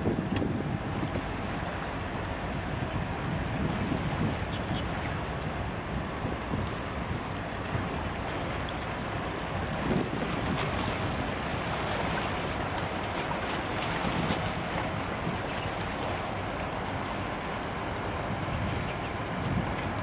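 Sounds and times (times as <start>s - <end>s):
wind buffeting microphone: 0.0s - 16.2s, 18.0s - 20.0s
ship engine rumble: 0.0s - 20.0s
water washing against breakwater: 0.0s - 20.0s.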